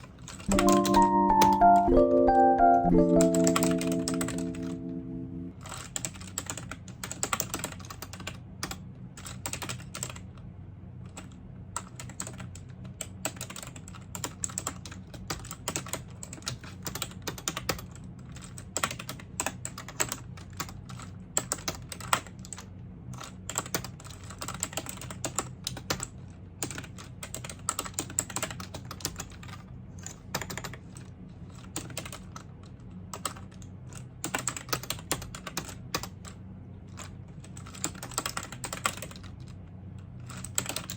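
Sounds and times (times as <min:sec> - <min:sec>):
typing on computer keyboard: 0:00.0 - 0:01.6, 0:03.1 - 0:04.9, 0:05.8 - 0:10.2, 0:11.1 - 0:32.4, 0:33.1 - 0:39.4, 0:40.3 - 0:40.9.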